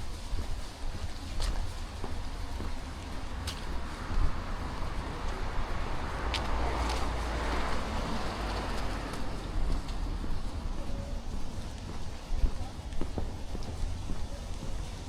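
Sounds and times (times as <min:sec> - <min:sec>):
footsteps on leafy path: 0:00.0 - 0:15.0
wind rumble on microphone: 0:00.0 - 0:15.0.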